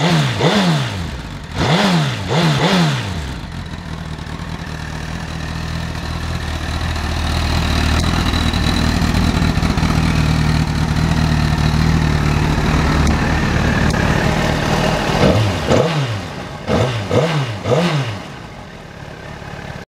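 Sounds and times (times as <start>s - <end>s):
motorcycle engine idling and revving: 0.0s - 19.8s.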